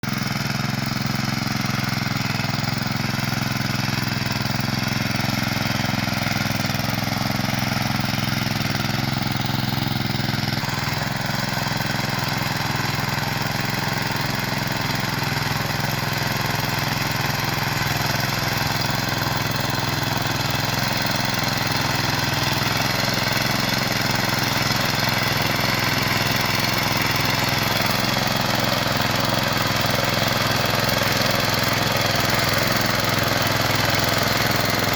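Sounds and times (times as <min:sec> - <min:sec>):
cultivator engine running: 0:00.0 - 0:34.9.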